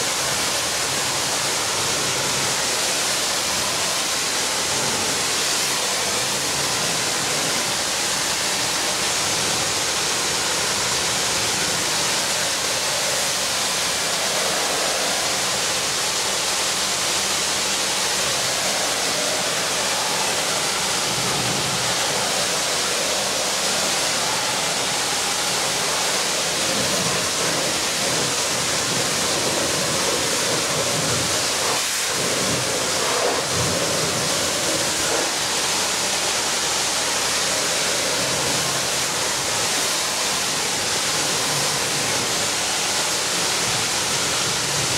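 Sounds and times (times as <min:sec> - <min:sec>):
pressure washer spraying water: 0:00.0 - 0:44.9.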